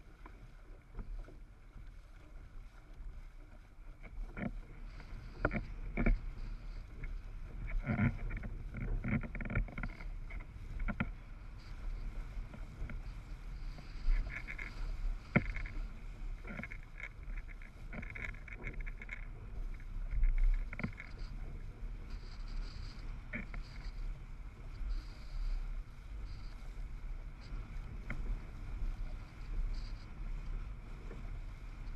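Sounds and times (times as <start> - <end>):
wind rumble on microphone: 0.0 - 31.9.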